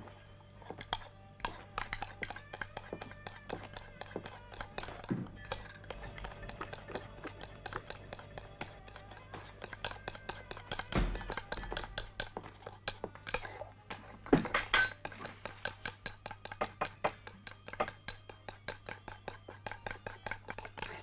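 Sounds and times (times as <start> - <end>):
utensil clinking against a bowl: 0.0 - 21.0.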